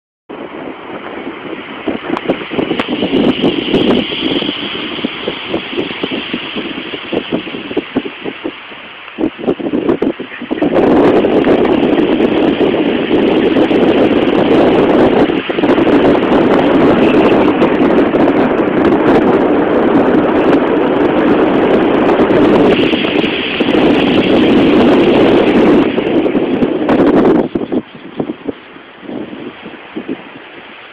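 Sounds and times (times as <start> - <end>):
wind buffeting microphone: 0.3 - 30.9.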